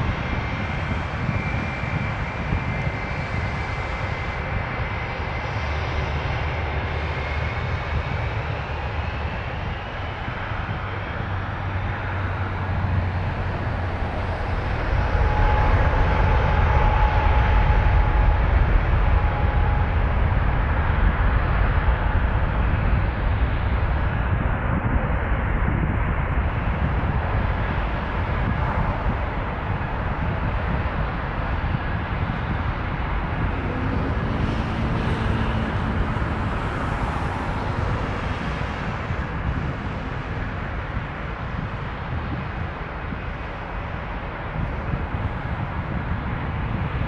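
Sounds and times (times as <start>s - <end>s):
jet engines rumbling at takeoff: 0.0s - 47.0s.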